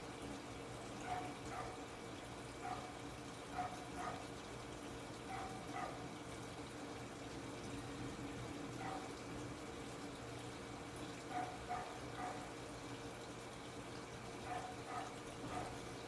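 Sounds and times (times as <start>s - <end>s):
washing machine hum: 0.0s - 16.0s
water sloshing in tub: 0.0s - 16.0s.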